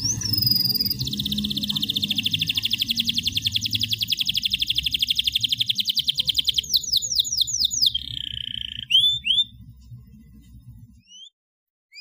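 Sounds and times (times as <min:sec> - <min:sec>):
canary singing: 0:00.0 - 0:09.6, 0:11.0 - 0:12.0.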